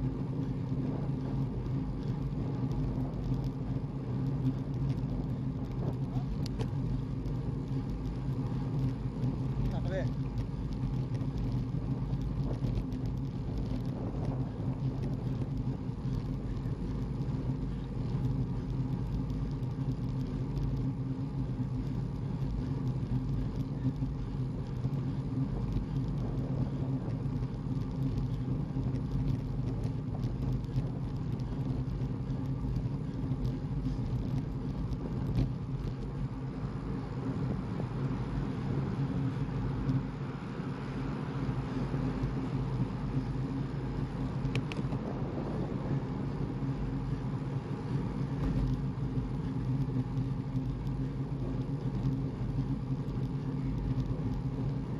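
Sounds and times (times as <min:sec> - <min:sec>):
car driving: 0:00.0 - 0:54.9.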